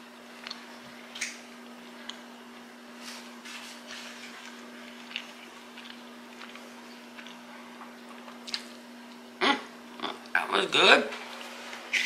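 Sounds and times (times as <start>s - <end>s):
steady low hum: 0.0s - 12.0s
person chewing food: 0.4s - 10.3s.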